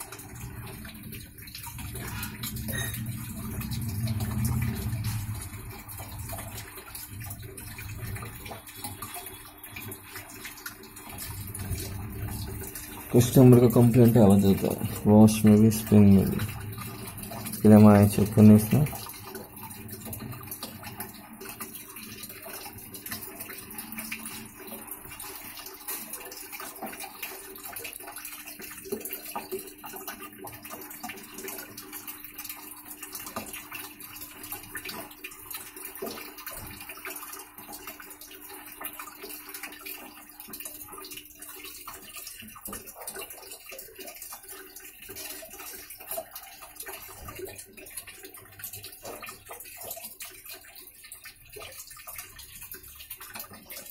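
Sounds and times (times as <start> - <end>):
washing machine running: 0.0 - 53.9
water rushing in tub: 0.0 - 53.9.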